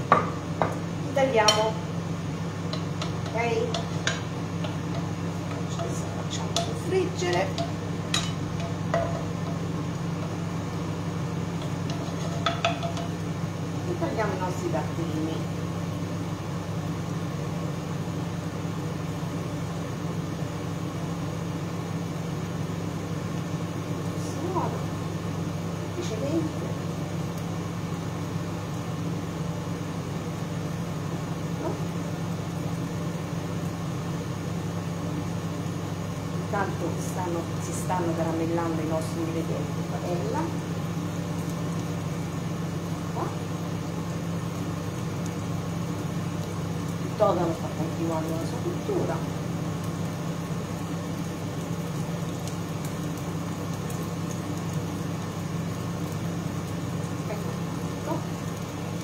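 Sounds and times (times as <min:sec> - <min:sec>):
extractor hood fan humming: 0:00.0 - 0:59.0.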